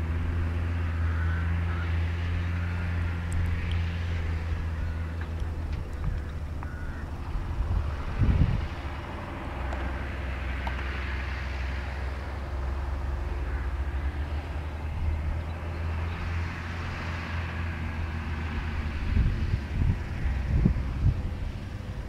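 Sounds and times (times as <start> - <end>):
distant tractor diesel engine: 0.0 - 22.0.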